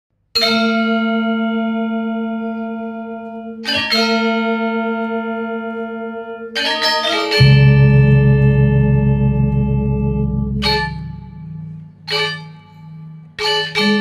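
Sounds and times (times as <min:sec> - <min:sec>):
struck bell tones: 0:00.4 - 0:14.0.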